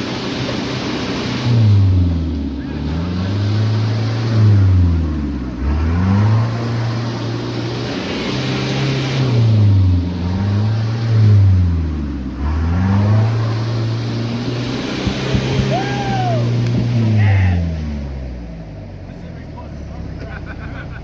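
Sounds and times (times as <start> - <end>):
engine revving up and down: 0.0 - 18.6.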